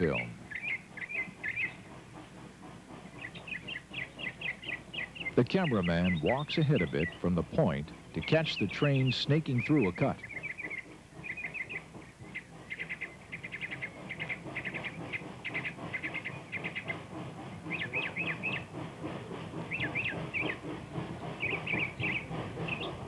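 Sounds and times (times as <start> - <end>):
small birds chirping: 0.0 - 2.0, 3.0 - 23.0
steam locomotive working: 0.0 - 23.0.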